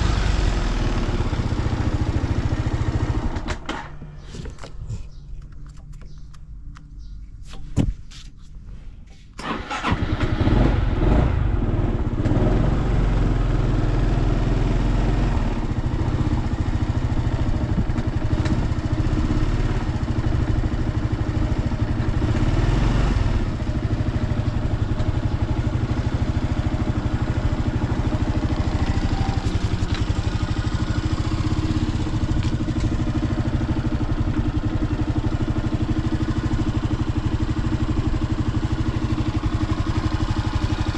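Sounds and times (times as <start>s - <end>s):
scooter engine idling: 0.0s - 3.8s, 9.4s - 40.9s.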